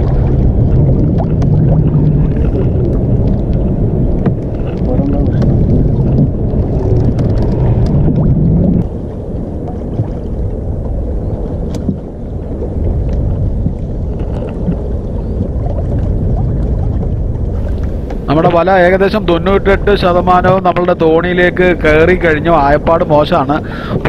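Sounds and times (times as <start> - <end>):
water washing against boat: 0.0 - 24.0
wind rumbling on microphone: 0.0 - 24.0.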